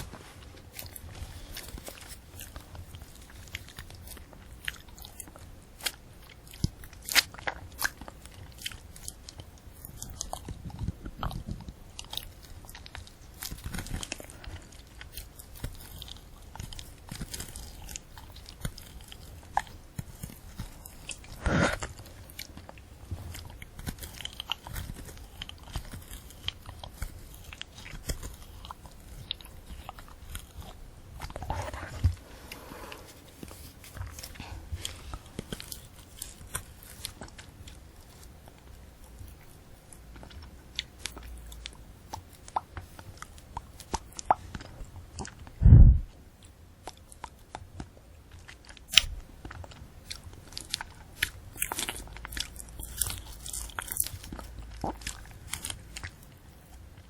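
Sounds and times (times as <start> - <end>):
candy apple crunching: 0.0 - 57.0
wet chewing: 0.0 - 57.0.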